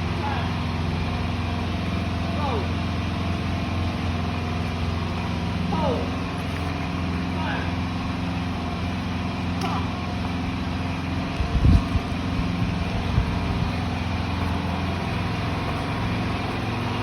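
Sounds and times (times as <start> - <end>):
generator engine droning: 0.0 - 17.0.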